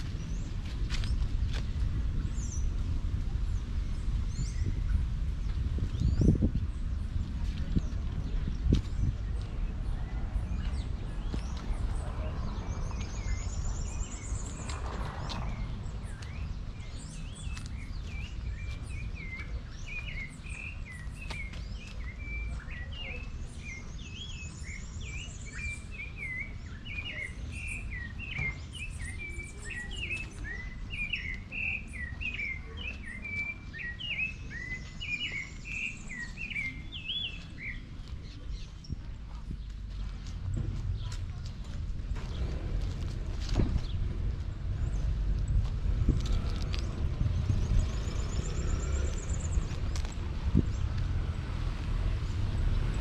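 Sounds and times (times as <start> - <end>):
birds chirping: 0.0 - 53.0
steady low rumble: 0.0 - 53.0.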